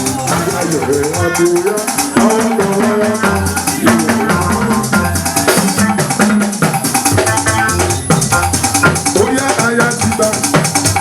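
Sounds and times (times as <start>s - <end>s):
band melody instruments: 0.0s - 11.0s
bass line: 0.0s - 11.0s.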